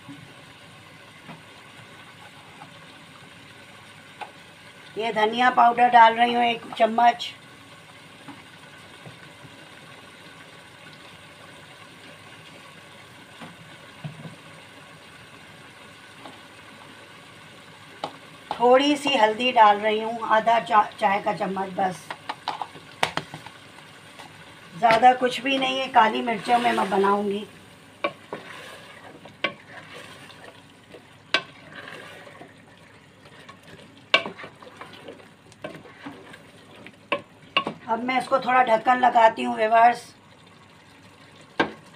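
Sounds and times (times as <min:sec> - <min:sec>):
pot cooking on stove hiss: 0:00.0 - 0:41.9.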